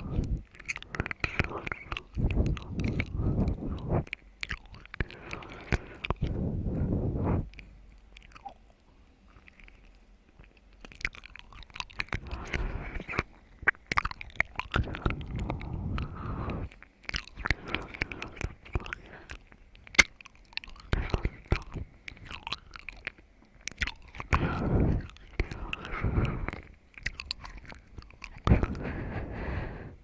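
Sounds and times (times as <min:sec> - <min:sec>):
wet chewing and crunchy biting: 0:00.0 - 0:29.5
sharp mouth clicks: 0:00.0 - 0:30.0.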